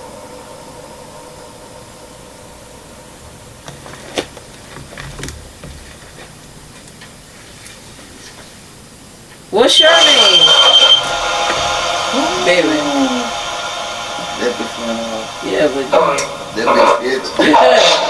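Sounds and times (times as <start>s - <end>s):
radio static hiss: 3.1s - 18.0s.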